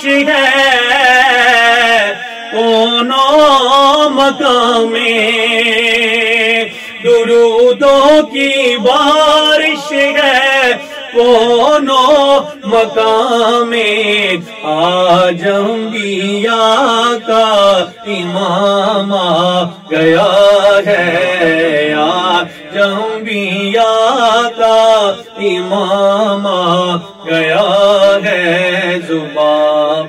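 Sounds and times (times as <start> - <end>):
man singing devotional song: 0.0 - 30.0.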